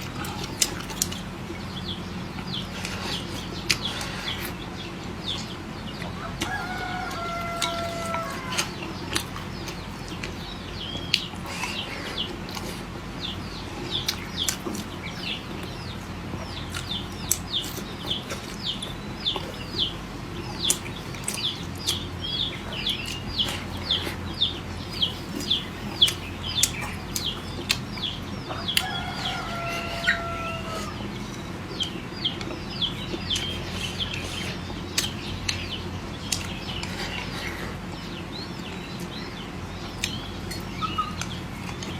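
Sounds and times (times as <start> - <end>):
low steady hum: 0.0 - 41.9
poultry chirping: 0.0 - 41.9.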